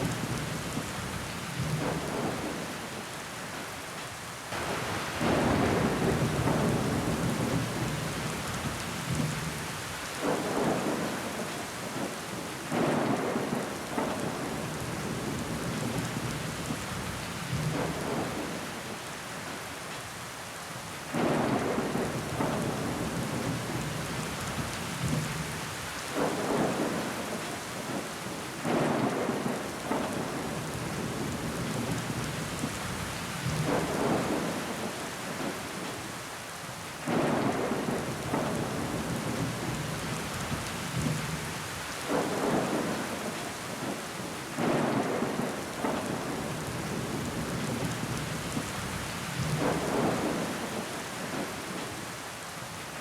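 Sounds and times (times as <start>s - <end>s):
rain on a window pane: 0.0s - 53.0s.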